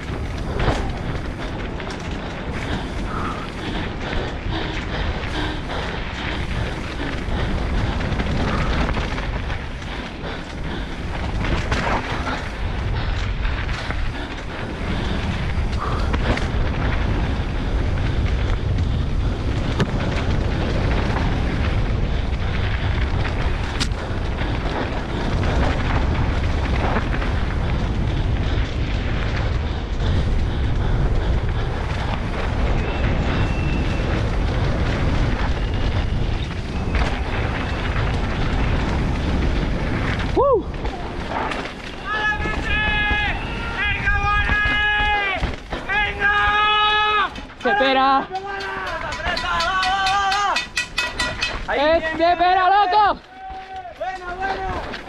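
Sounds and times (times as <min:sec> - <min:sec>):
wind noise on helmet: 0:00.0 - 0:47.3.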